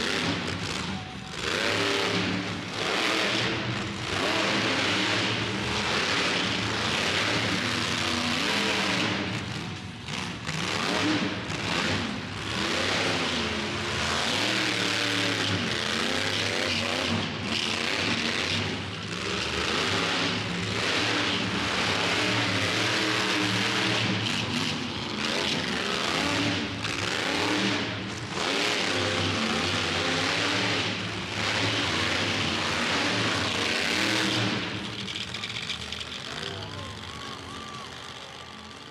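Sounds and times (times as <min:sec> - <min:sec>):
truck engine revving hard: 0:00.0 - 0:38.9.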